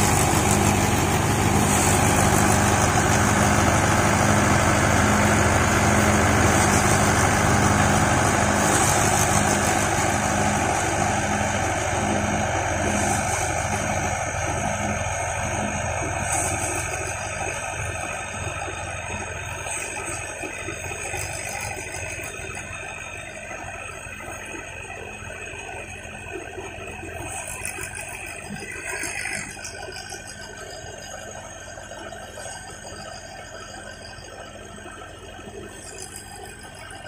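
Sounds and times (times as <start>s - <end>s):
paddy thresher running: 0.0s - 37.0s
tractor diesel engine: 0.0s - 37.0s.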